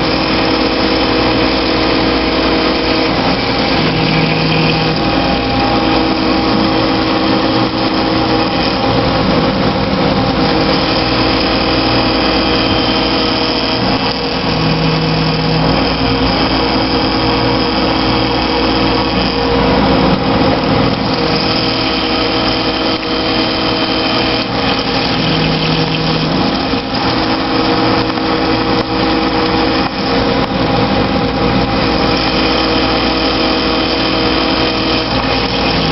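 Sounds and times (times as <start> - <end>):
milling machine cutting: 0.0 - 35.9.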